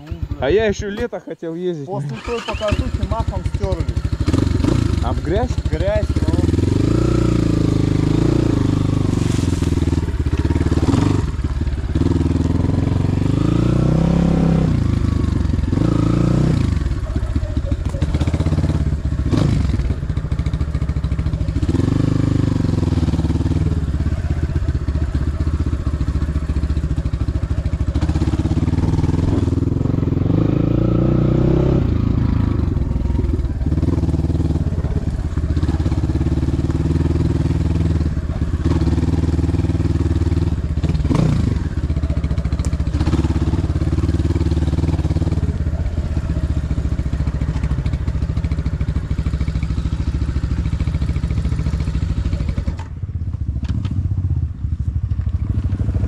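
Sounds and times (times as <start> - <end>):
motorcycle engine revving: 2.0 - 56.0.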